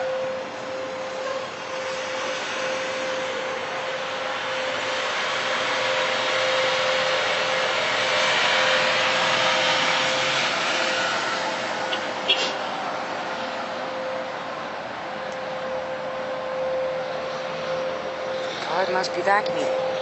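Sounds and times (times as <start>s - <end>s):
rushing drone with hum: 0.0s - 20.0s.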